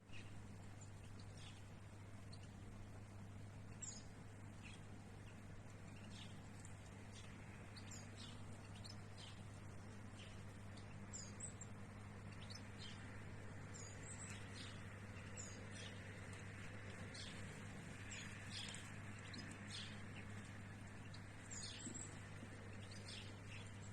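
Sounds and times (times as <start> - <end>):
faint low hum: 0.0 - 23.9
small birds chirping: 0.0 - 23.9.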